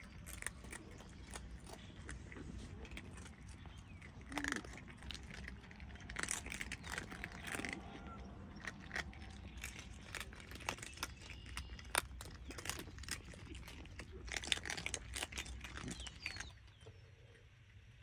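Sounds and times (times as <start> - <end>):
cats crunching dry kibble: 0.0 - 18.0.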